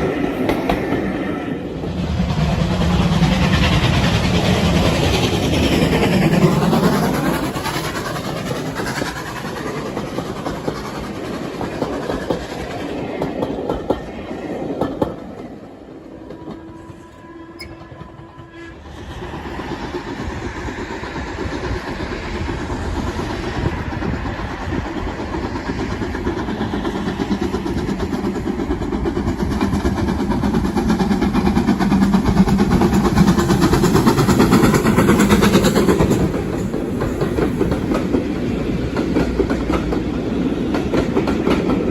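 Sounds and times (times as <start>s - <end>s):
steam train running: 0.0s - 41.9s.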